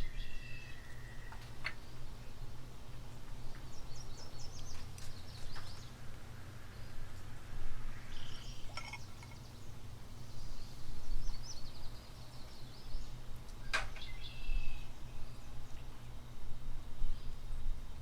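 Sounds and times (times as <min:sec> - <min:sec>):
small birds chirping: 0:00.0 - 0:16.3
low outdoor rumble: 0:00.0 - 0:18.0.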